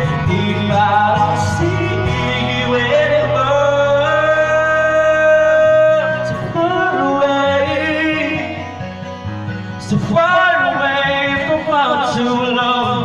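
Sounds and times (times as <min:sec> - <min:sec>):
instrumental accompaniment: 0:00.0 - 0:13.0
man singing into a microphone: 0:00.0 - 0:13.0.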